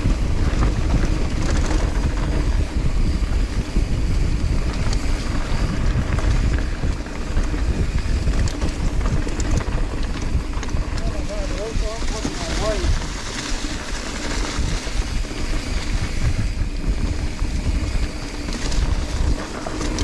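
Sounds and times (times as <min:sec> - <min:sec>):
bike clicking and rattling: 0:00.0 - 0:20.0
tyres rolling over dirt: 0:00.0 - 0:20.0
wind noise on microphone: 0:00.0 - 0:20.0.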